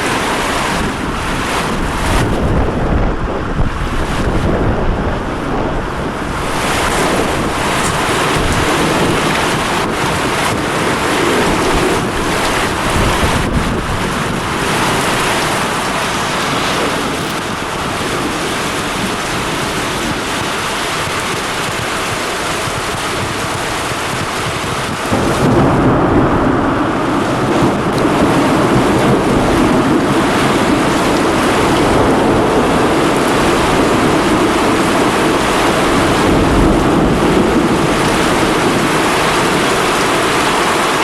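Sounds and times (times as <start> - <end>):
heavy rain pouring: 0.0 - 41.0
thunder rumbling: 0.0 - 41.0.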